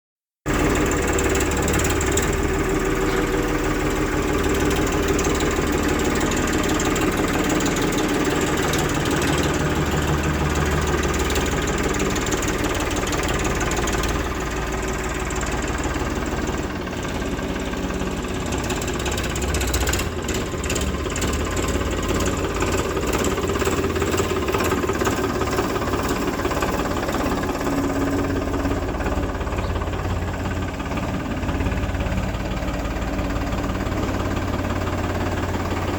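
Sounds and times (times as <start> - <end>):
diesel engines running: 0.5 - 35.9.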